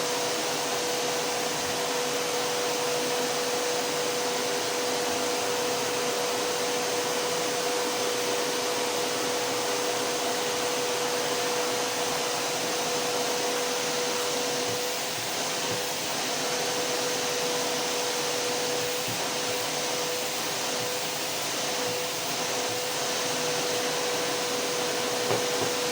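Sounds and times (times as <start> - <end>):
vacuum cleaner running: 0.0 - 25.9.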